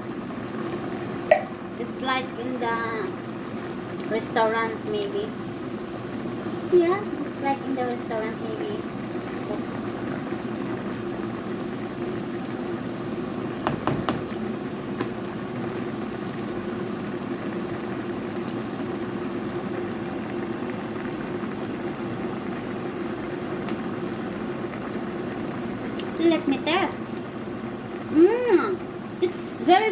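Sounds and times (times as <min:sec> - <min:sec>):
curry bubbling in a pan: 0:00.0 - 0:29.9.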